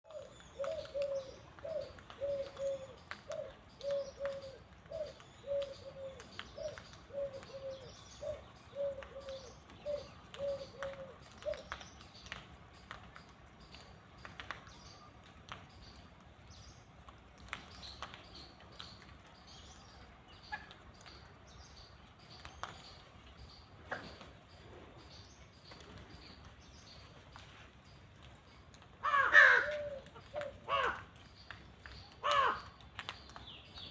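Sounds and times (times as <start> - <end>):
low repeated bird calls: 0.1 - 33.9.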